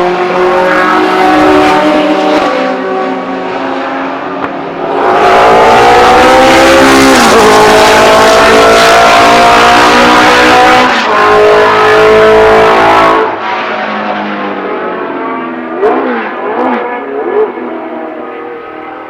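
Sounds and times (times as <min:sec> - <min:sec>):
racing car engine at full throttle: 0:00.0 - 0:19.0.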